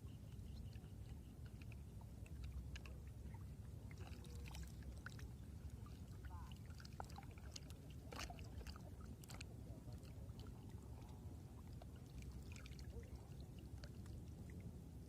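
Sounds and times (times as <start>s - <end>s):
water sloshing and lapping: 0.1s - 15.0s.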